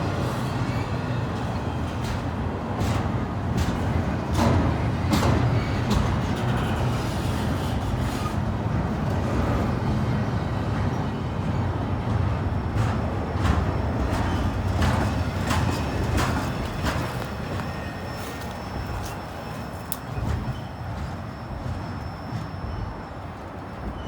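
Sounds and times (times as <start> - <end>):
train cars clanking: 0.0 - 24.0
train wheels rumbling on rail: 0.0 - 24.0.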